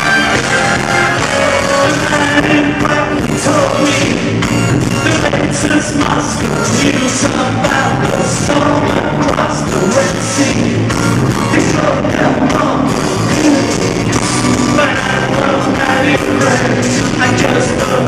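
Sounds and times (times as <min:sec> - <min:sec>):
live ska band playing: 0:00.0 - 0:18.0
male lead vocal: 0:00.0 - 0:18.0.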